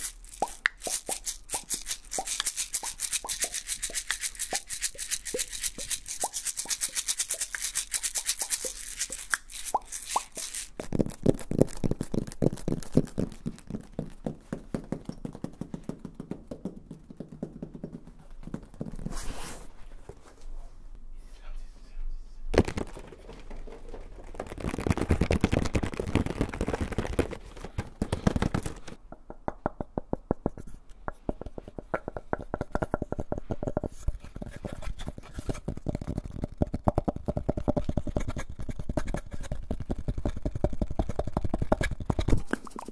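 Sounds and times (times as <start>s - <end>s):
fingertips tapping on foam packaging: 0.0s - 19.0s, 24.2s - 42.8s.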